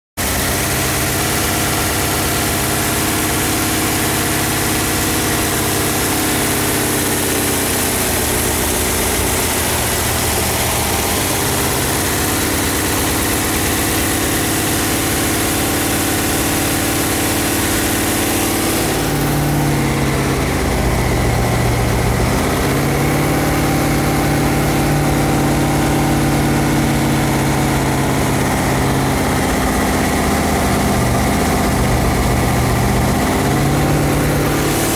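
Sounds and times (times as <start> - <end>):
boat engine revving: 0.2 - 34.9.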